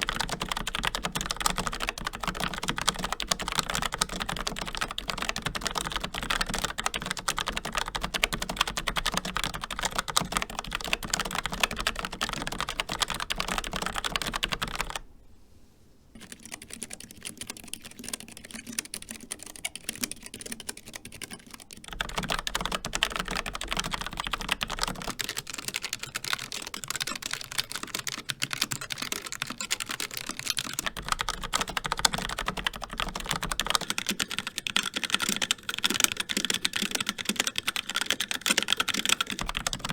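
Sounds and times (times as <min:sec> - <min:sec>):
fast typing on mechanical keyboard: 0:00.0 - 0:15.0, 0:16.2 - 0:39.9.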